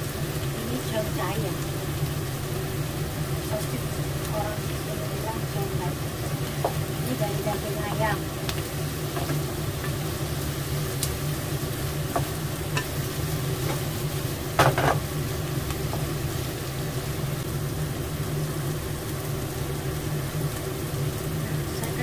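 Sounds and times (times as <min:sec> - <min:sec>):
food sizzling in frying pan: 0:00.0 - 0:22.0.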